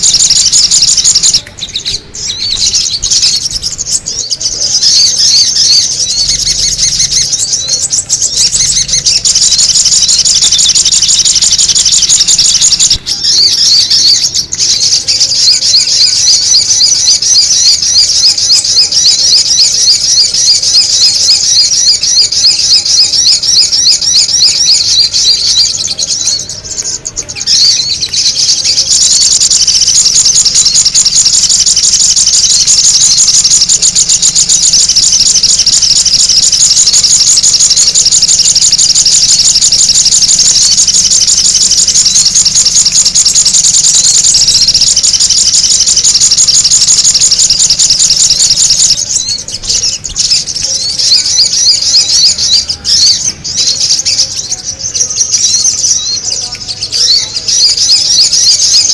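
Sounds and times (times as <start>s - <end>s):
bird chattering calls: 0.0s - 58.9s.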